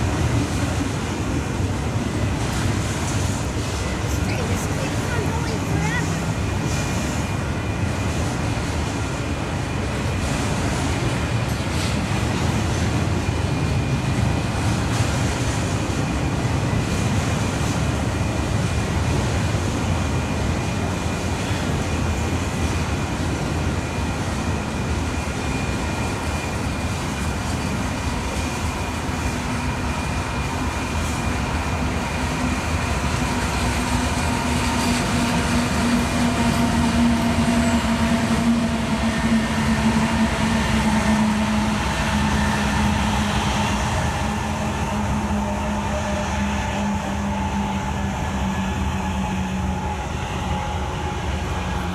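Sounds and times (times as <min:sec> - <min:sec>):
diesel locomotive engine drone: 0:00.0 - 0:51.9
freight train rumbling and rattling: 0:00.0 - 0:51.9.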